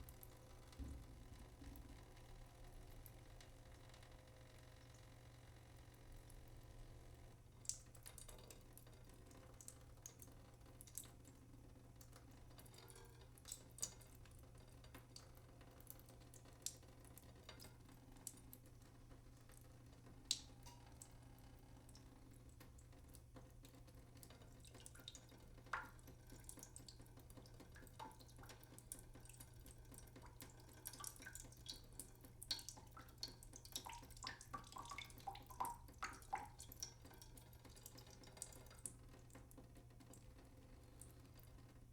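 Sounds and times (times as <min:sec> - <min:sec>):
water dripping from sink: 0:00.0 - 0:41.9.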